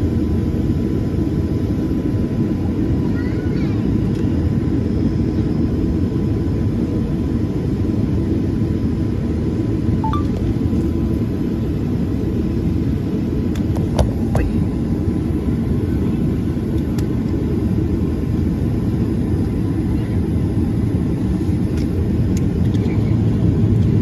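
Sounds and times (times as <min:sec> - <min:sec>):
airliner rumble: 0:00.0 - 0:24.0.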